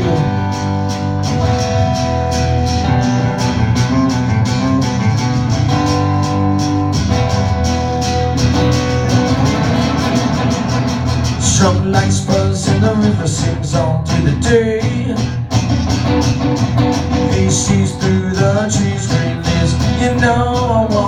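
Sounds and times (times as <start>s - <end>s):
acoustic band instrumental: 0.0s - 21.0s
guitars strummed: 0.0s - 21.0s.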